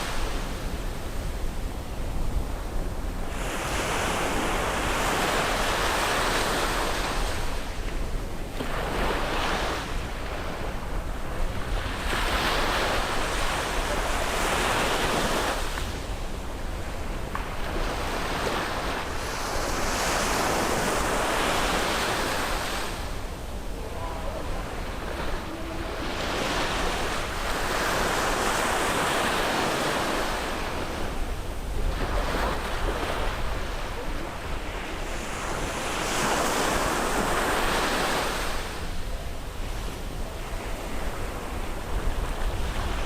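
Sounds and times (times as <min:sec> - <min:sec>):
sea waves breaking on beach: 0:00.0 - 0:43.0
wind on microphone: 0:00.0 - 0:43.0.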